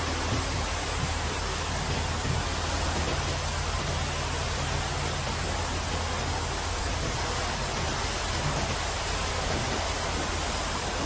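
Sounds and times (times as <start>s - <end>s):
low steady hum: 0.0s - 11.0s
pressure washer spraying water: 0.0s - 11.0s.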